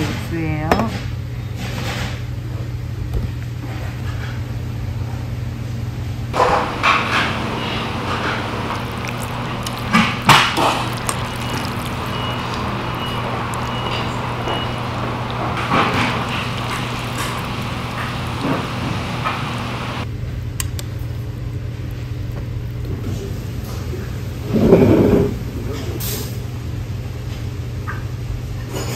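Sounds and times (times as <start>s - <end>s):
shop background hum: 0.0s - 28.9s.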